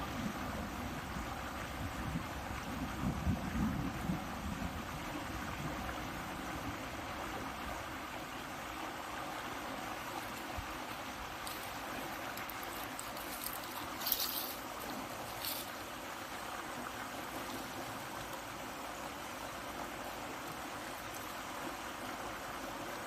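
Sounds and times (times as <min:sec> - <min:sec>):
flowing canal water: 0:00.0 - 0:23.0.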